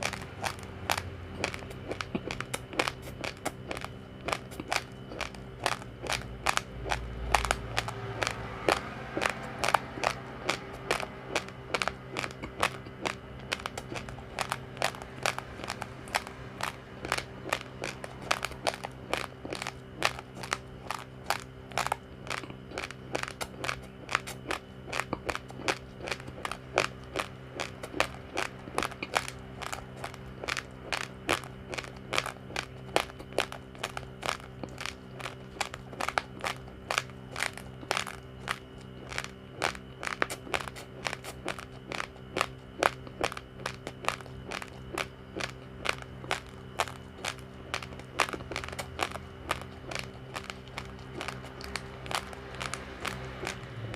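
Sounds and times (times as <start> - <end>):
faint steady hum: 0.0 - 53.9
rice being chewed crunching: 0.0 - 53.9.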